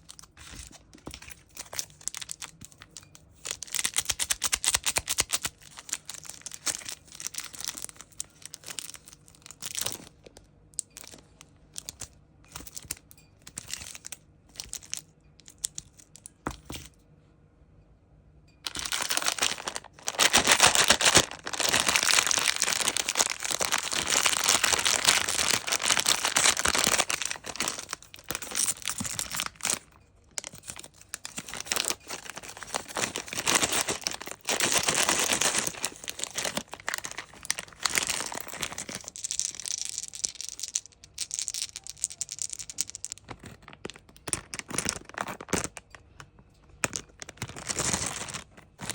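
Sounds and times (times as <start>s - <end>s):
sweet packaging crinkling: 0.0s - 16.9s, 18.6s - 48.9s.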